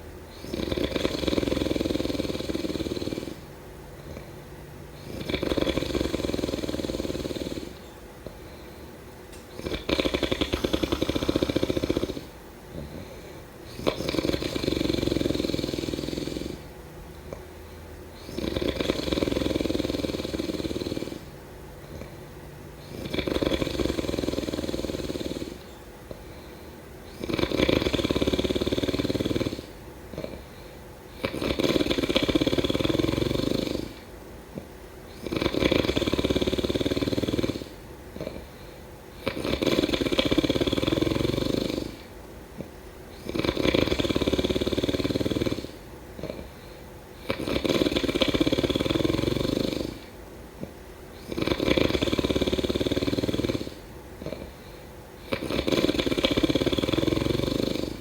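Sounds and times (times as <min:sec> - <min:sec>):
person snoring: 0:00.0 - 0:08.8, 0:09.4 - 0:16.7, 0:18.1 - 0:22.2, 0:22.8 - 0:42.1, 0:43.1 - 0:58.0.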